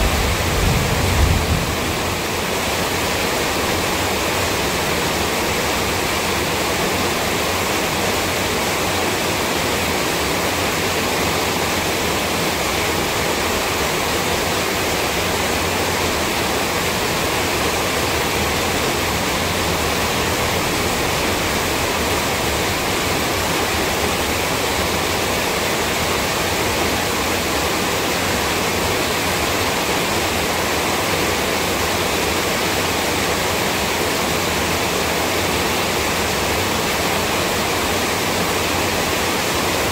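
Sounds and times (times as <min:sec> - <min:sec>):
loud steady rushing noise: 0:00.0 - 0:39.9.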